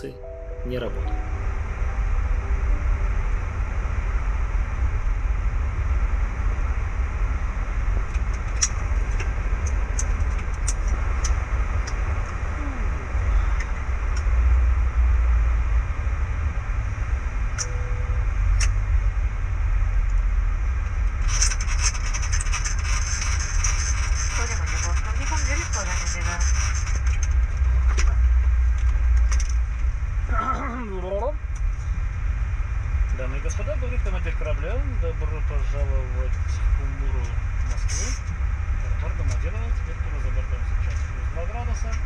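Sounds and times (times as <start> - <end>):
jet engine low rumble: 0.0 - 42.0.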